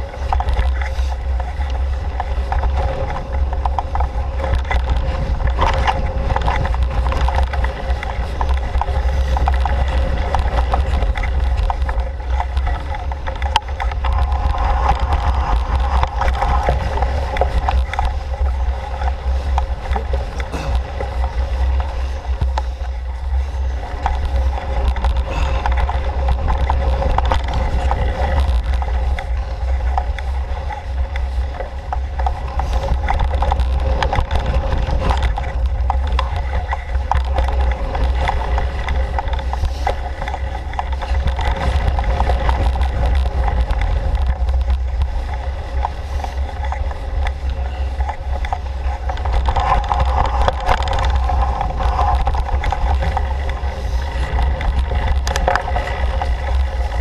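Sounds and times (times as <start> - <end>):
bike rattles and clicks: 0.0 - 57.0
bike tyres on dirt: 0.0 - 57.0
wind rumble: 0.0 - 57.0.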